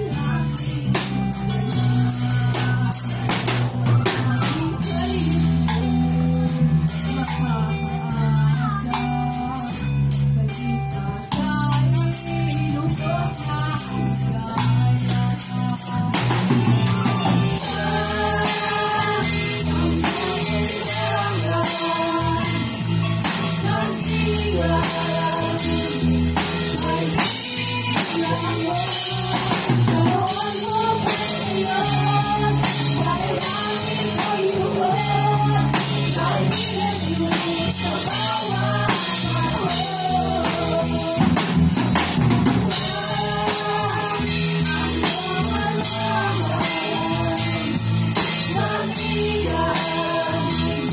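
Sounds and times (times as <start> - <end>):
girls singing into microphones: 0.0 - 50.9
instrumental music with steady beat: 0.0 - 50.9.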